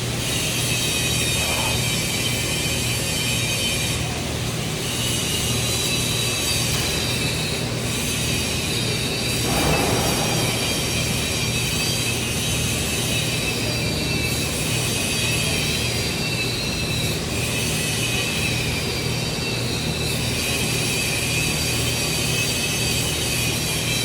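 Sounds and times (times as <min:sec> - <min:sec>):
welding arc buzzing and whining: 0:00.0 - 0:24.0.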